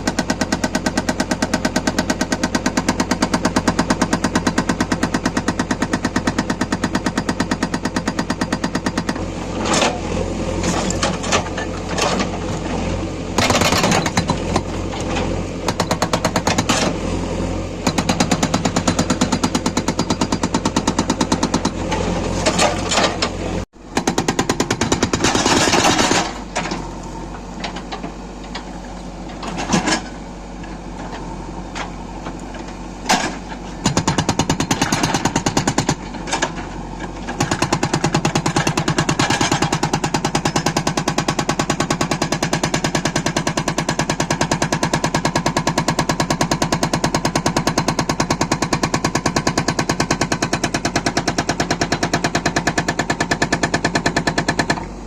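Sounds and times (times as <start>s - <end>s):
hydraulic rock breaker hammering stone: 0.0s - 10.0s, 13.4s - 17.0s, 17.8s - 26.9s, 33.0s - 55.0s.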